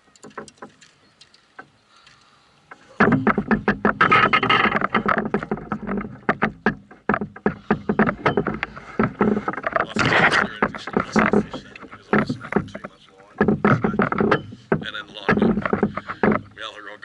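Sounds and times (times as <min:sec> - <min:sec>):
fishing gear knocking against canoe: 0:00.2 - 0:01.8, 0:02.7 - 0:17.0.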